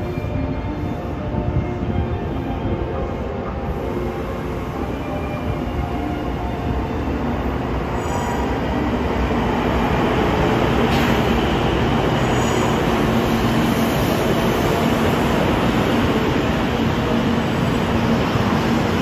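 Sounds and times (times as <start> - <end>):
train running past: 0.0 - 19.0.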